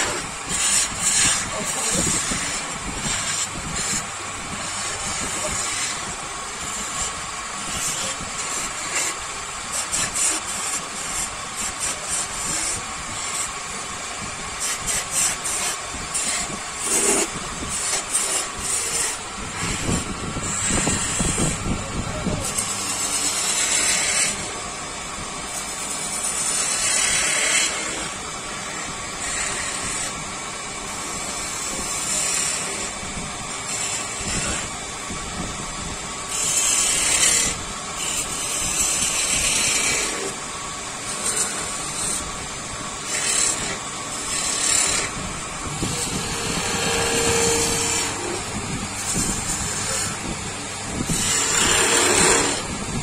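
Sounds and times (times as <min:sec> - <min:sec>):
scraping against machine: 0:00.0 - 0:53.0
workshop machine motor running: 0:00.0 - 0:53.0.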